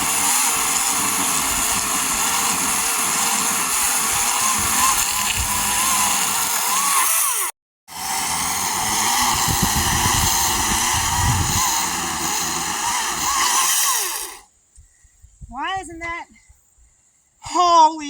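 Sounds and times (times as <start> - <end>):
chainsaw cutting logs: 0.0 - 14.5.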